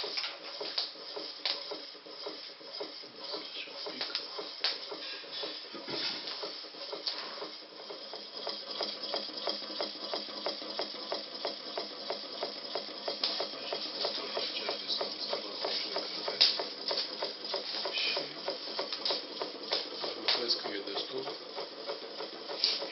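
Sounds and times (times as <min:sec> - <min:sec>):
small engine ticking: 0:00.0 - 0:22.9.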